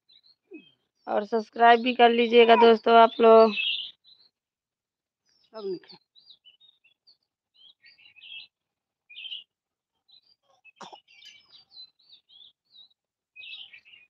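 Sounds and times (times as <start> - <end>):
small birds chirping: 0.0 - 4.4, 5.2 - 14.0.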